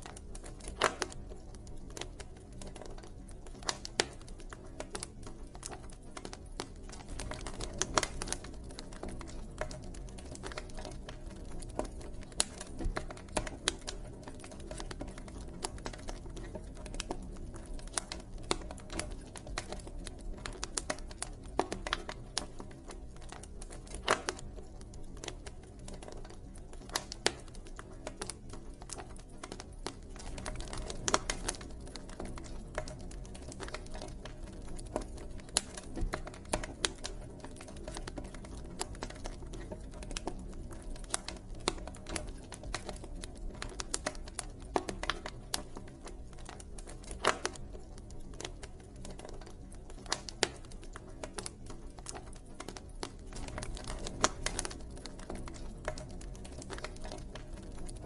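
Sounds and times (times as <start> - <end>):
campfire pops and snaps: 0.0 - 58.0
low rumble of burning fire: 0.0 - 58.0.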